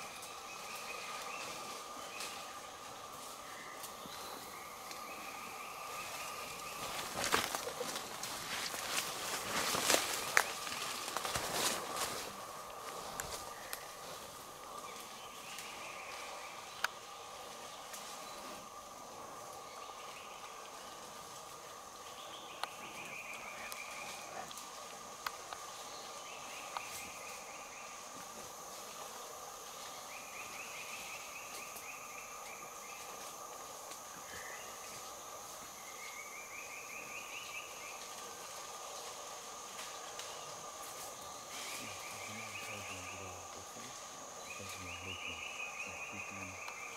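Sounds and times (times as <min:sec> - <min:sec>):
insect chorus: 0:00.0 - 0:46.9.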